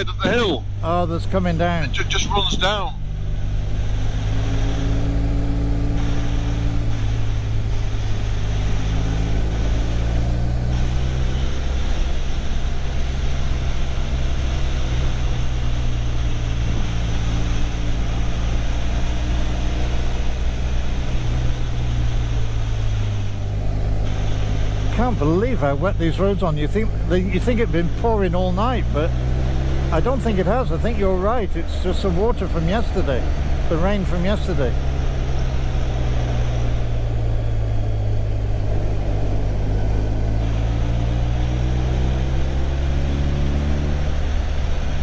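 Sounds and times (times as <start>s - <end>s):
motorcycle engine cruising: 0.0s - 45.0s
tyres on wet road: 0.0s - 45.0s.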